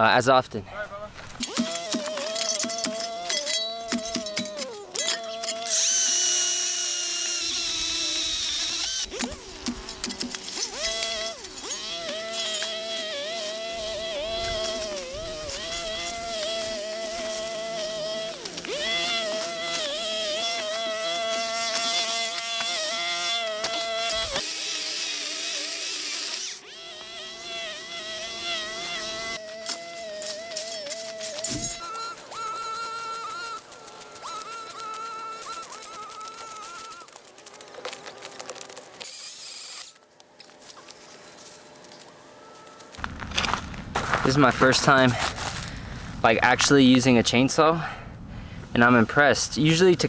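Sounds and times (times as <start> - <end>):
chainsaw motor whining: 1.4 - 40.0, 41.9 - 50.0.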